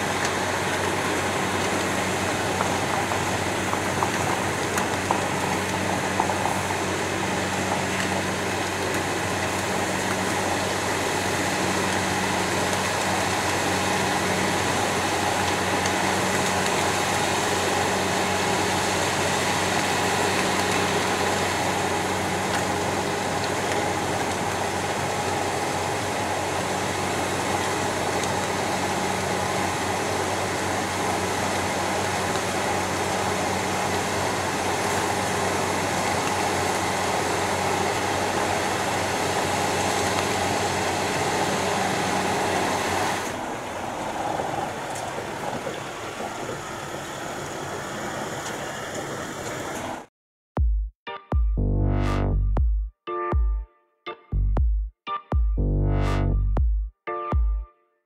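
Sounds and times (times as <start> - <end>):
snow hissing from a chute: 0.0 - 50.0
snow blower engine drone: 0.0 - 50.1.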